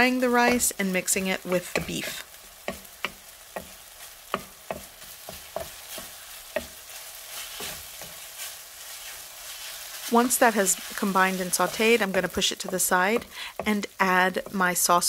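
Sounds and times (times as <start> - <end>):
wooden spatula scraping a pan: 0.0 - 14.6
food sizzling in a pan: 0.0 - 15.0.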